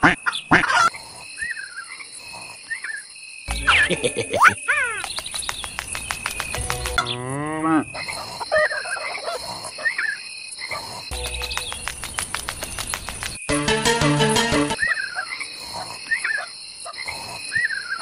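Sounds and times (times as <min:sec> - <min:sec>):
crickets chirping: 0:00.0 - 0:13.5, 0:14.8 - 0:18.0
frogs croaking: 0:00.0 - 0:13.5, 0:14.8 - 0:18.0.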